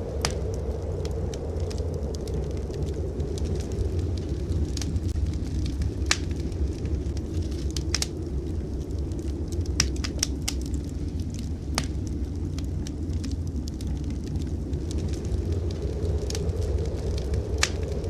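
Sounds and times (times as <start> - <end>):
low rumble of blizzard wind: 0.0 - 18.0
wood fire crackling and popping: 0.0 - 18.0.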